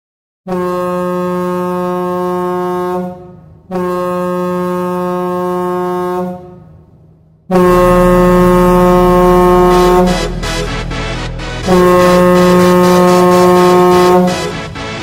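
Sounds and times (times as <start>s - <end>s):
goal horn blasts: 0.5s - 6.6s, 7.5s - 14.8s.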